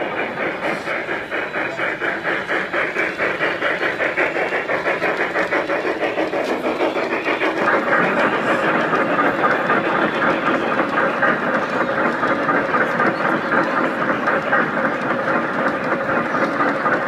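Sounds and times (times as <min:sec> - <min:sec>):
model steam locomotive running: 0:00.0 - 0:17.0.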